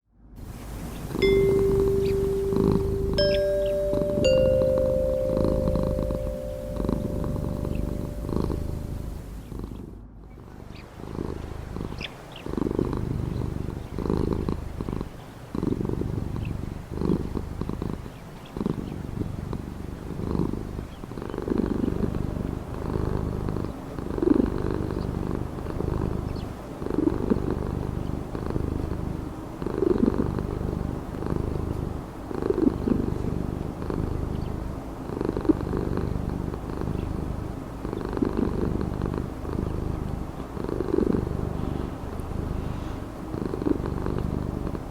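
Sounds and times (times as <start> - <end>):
cat purring: 0.4 - 44.9.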